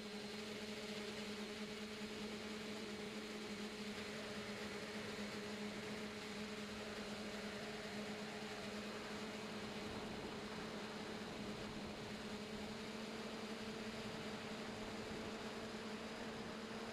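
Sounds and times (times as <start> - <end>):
drone motors and propellers: 0.1 - 16.9.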